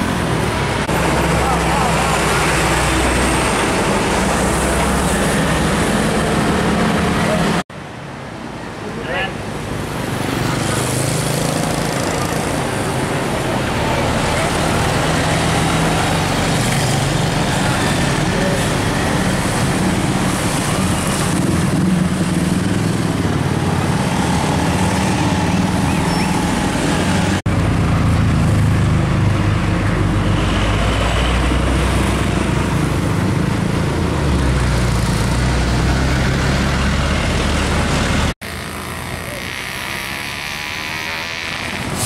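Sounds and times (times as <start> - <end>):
diesel truck engines: 0.0 - 42.0
mixed road traffic: 0.0 - 42.0.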